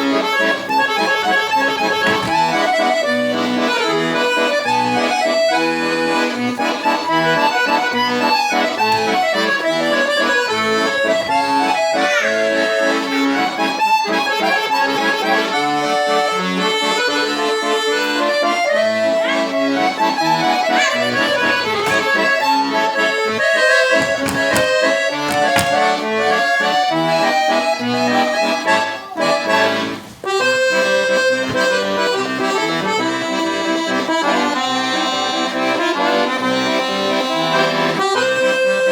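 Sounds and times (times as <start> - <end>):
accordion playing melody: 0.0 - 38.9.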